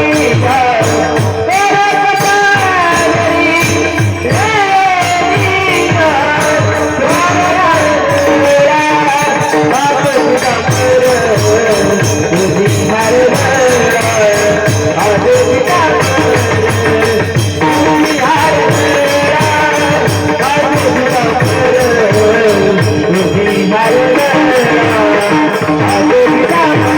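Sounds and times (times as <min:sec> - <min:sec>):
devotional singing melody: 0:00.0 - 0:26.9
drum strokes: 0:00.0 - 0:26.9
jingling hand cymbals: 0:00.0 - 0:26.9.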